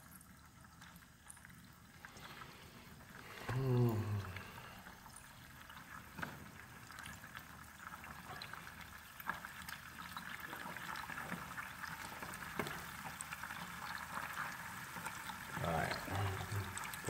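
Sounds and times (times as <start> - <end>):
water sizzling and bubbling in a pan: 0.0 - 17.0.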